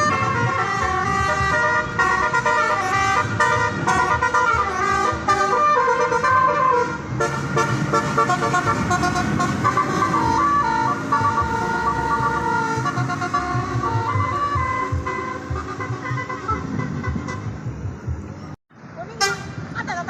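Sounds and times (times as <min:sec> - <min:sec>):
bus horn playing a tune: 0:00.0 - 0:17.7, 0:19.2 - 0:19.6
low engine rumble: 0:00.0 - 0:20.0.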